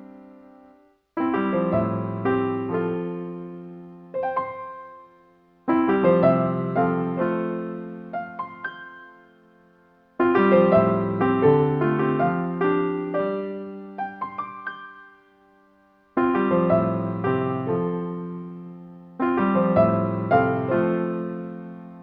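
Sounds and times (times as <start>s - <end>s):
gentle piano phrase: 0.0s - 22.0s.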